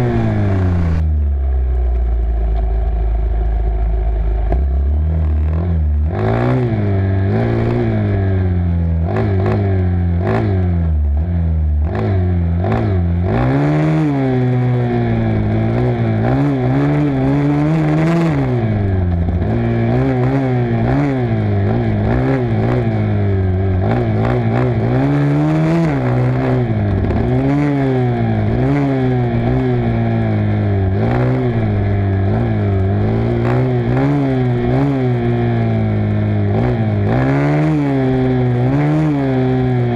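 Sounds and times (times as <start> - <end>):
off-road motorcycle engine running: 0.0 - 39.9.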